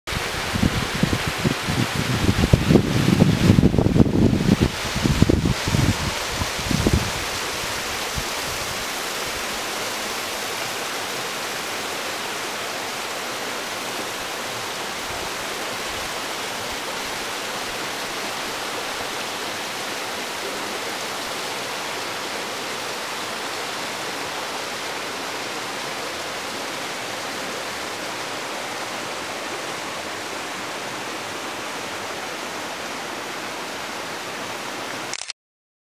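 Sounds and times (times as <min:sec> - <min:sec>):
creek and waterfall flowing: 0:00.1 - 0:35.3.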